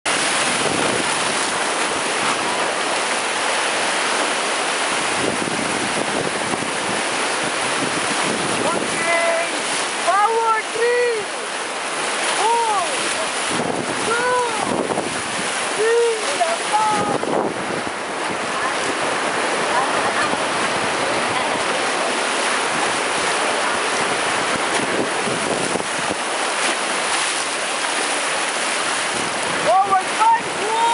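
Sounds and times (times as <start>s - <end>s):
river rapids rushing: 0.1s - 30.9s.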